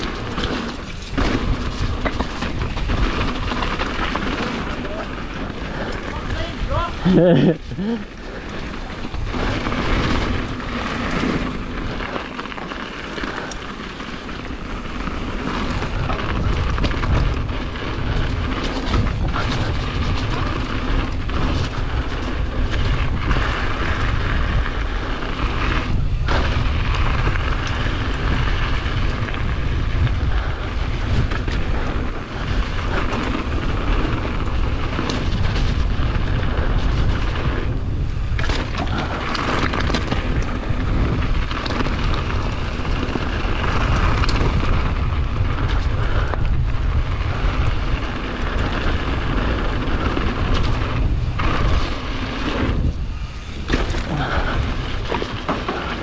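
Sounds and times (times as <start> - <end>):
bike clicks and rattles: 0.0 - 56.0
tyres rumbling over gravel: 0.0 - 56.0
wind buffeting microphone: 0.0 - 56.0.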